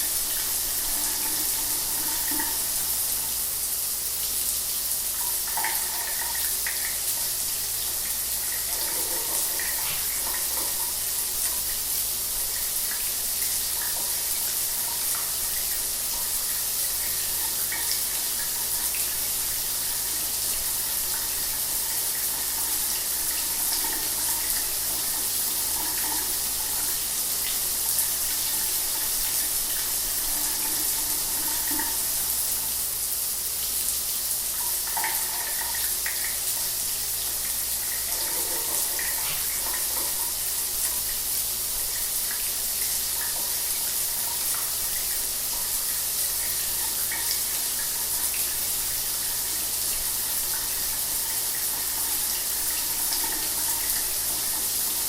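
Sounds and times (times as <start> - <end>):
shower water running: 0.0 - 55.0.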